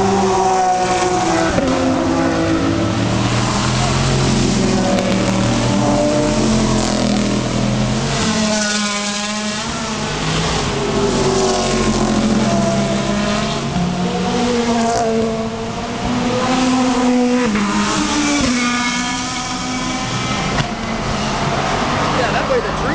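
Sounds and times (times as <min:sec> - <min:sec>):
race car engines accelerating: 0:00.0 - 0:22.9
race car passing close: 0:00.0 - 0:22.9.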